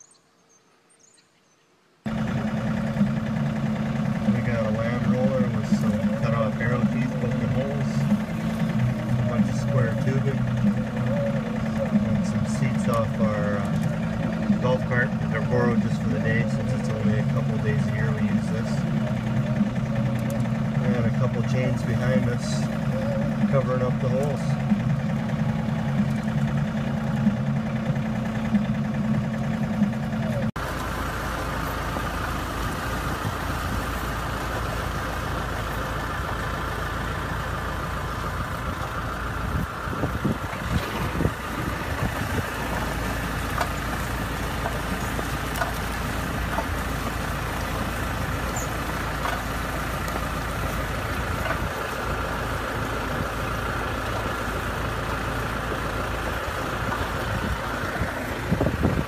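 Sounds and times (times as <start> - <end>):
engine and machinery rumble: 0.0 - 59.0
vehicle engine running: 2.0 - 59.0.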